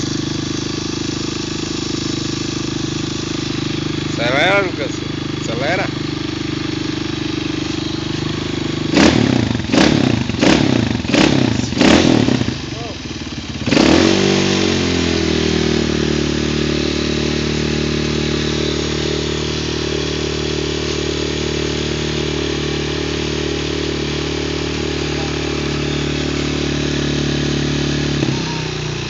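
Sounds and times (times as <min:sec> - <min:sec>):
small motorcycle engine running: 0:00.0 - 0:29.0.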